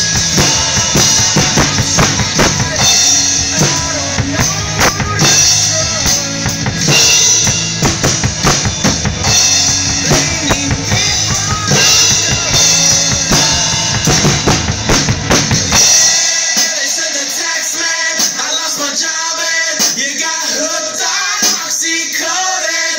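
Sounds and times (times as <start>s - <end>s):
drum kit played hard: 0.0s - 22.8s
recorded rock song: 0.0s - 22.9s.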